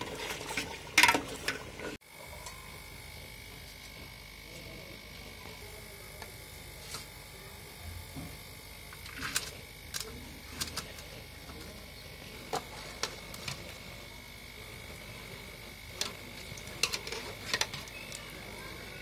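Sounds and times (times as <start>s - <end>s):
faint high whine: 2.0s - 19.0s.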